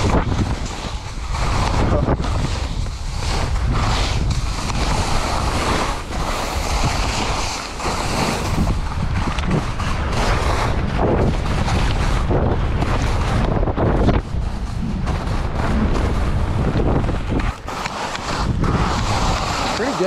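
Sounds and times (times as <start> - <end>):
skis scraping over snow: 0.0 - 20.0
wind noise on microphone: 0.0 - 20.0.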